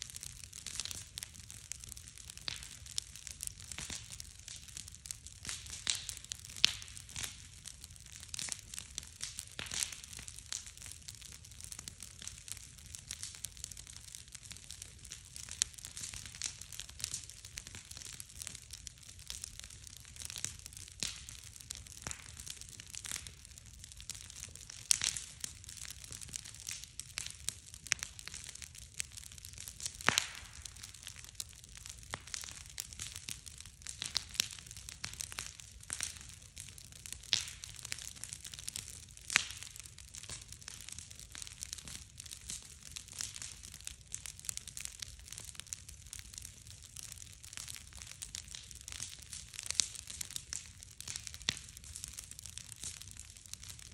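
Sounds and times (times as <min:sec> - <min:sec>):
wood bonfire crackling and popping: 0:00.0 - 0:53.9.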